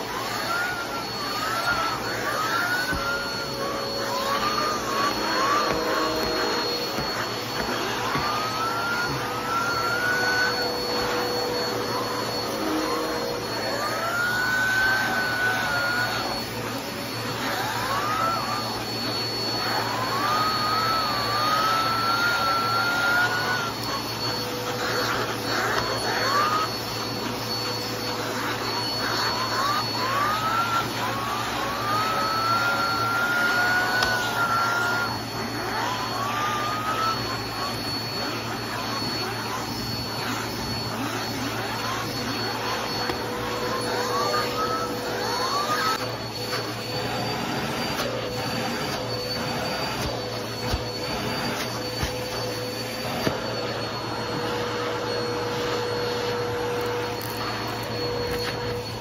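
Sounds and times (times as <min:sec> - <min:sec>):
vacuum cleaner running: 0:00.0 - 0:59.0
vacuum suction whistles: 0:00.0 - 0:59.0.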